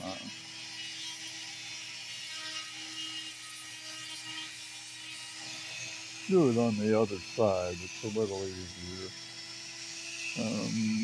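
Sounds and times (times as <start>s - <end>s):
rotary tool sanding whirring: 0.0s - 11.0s.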